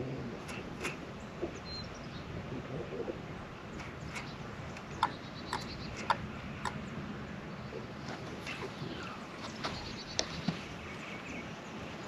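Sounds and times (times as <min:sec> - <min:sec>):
wind and water noise: 0:00.0 - 0:12.0
bird chirping: 0:00.4 - 0:02.3, 0:03.7 - 0:11.8.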